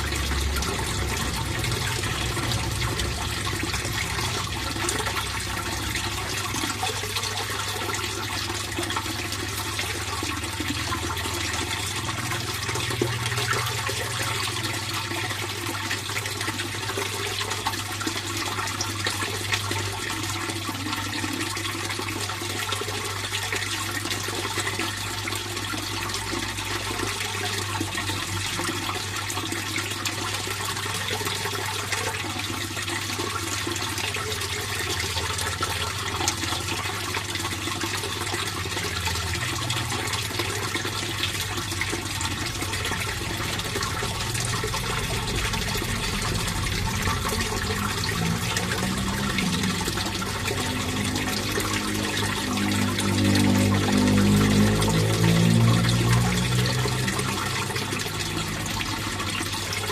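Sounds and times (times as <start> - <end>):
pond water flowing: 0.0 - 59.9.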